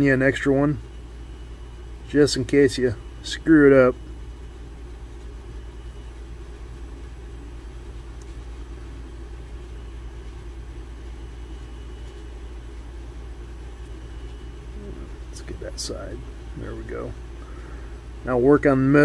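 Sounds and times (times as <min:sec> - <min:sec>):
low background hum with hiss: 0:00.0 - 0:19.0.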